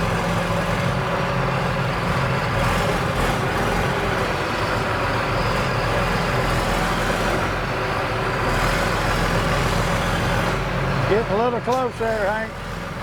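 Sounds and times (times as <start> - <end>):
large diesel engine running: 0.0 - 13.0.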